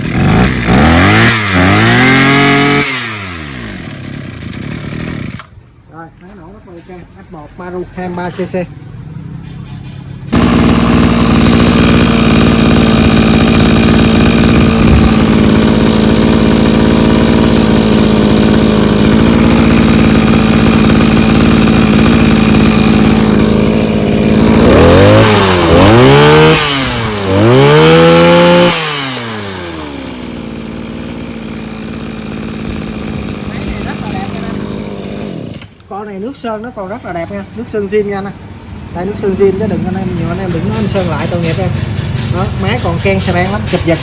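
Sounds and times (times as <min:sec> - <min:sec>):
two-stroke engine revving: 0:00.0 - 0:05.6, 0:10.3 - 0:35.9, 0:36.9 - 0:44.0.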